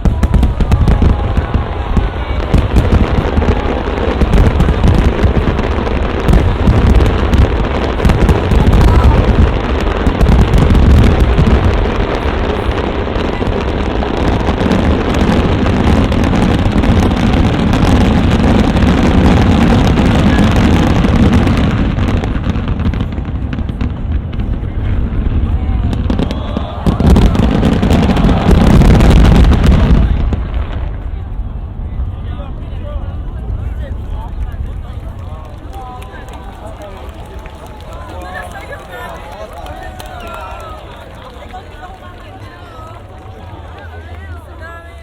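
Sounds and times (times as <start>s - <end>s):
fireworks booming: 0.0s - 42.6s
fireworks crackling: 0.0s - 45.0s.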